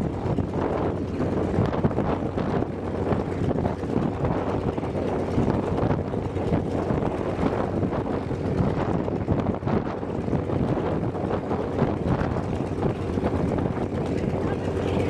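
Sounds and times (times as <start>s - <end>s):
wind buffeting microphone: 0.0s - 15.0s
radial engine idling: 0.1s - 15.0s.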